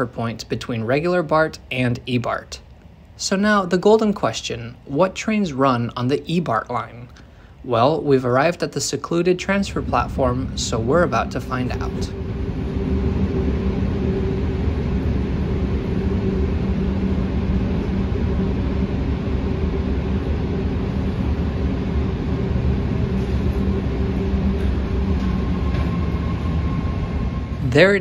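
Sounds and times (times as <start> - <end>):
constant hum: 0.0 - 28.0
train rumbling: 5.5 - 28.0.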